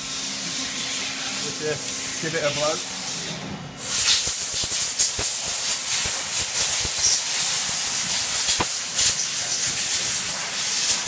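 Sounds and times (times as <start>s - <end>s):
air blow gun hissing: 0.9s - 3.2s, 3.8s - 11.0s.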